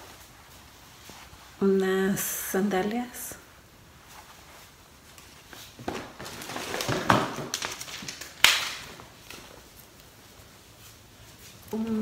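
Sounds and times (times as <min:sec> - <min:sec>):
clothes rustling and bumping: 0:00.0 - 0:01.6, 0:03.8 - 0:12.0.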